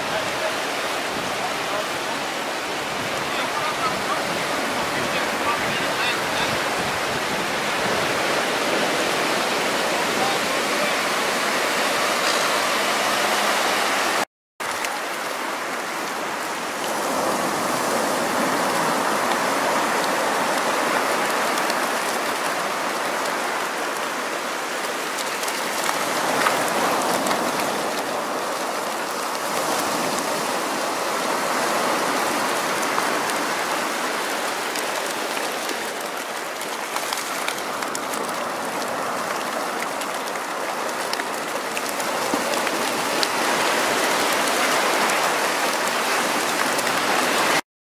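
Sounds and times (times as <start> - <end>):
surf splashing in shallows: 0.0 - 47.6.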